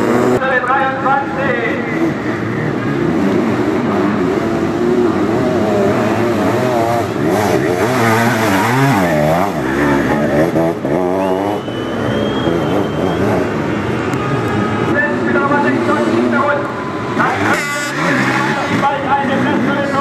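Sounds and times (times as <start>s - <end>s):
motocross engines revving: 0.0s - 20.0s.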